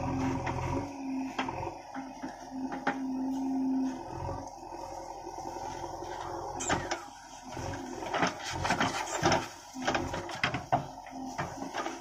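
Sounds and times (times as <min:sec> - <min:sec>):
bucket digging and scraping soil: 0:00.0 - 0:04.4, 0:05.6 - 0:12.0
diesel engine and hydraulics: 0:00.0 - 0:12.0.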